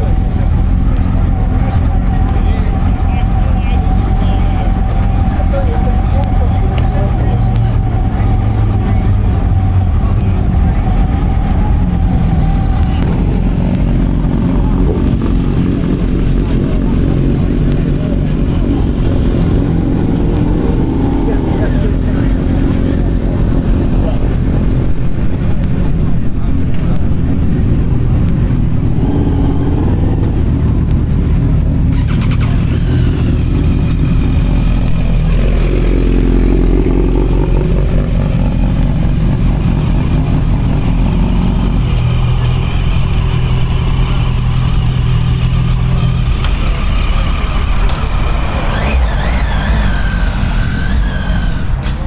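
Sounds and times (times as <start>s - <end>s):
motorcycle engines idling: 0.0s - 52.0s
motorcycle revving: 0.0s - 52.0s.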